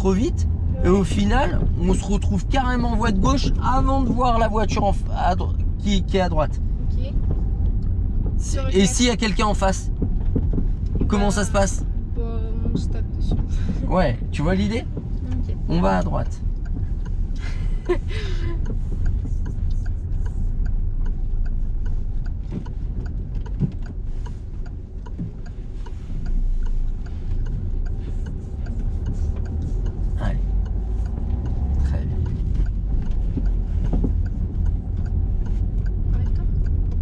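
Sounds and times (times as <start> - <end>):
car engine and road rumble: 0.0 - 37.0
turn signal ticking: 0.0 - 37.0.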